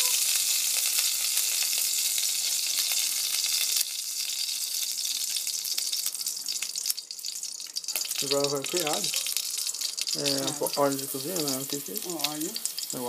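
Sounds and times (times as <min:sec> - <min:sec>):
hot oil sizzling in a pot: 0:00.0 - 0:13.0.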